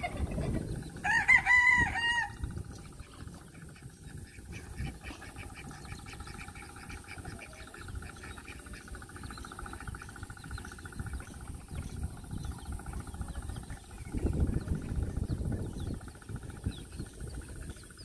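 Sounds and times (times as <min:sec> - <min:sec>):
ducks quacking: 0:00.0 - 0:18.0
fast-pulsed buzz: 0:00.0 - 0:18.0.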